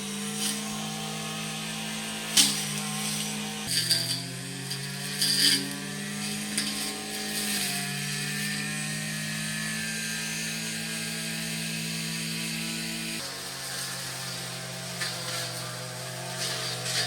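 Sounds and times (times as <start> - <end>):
brush cutter engine running: 0.0 - 17.0.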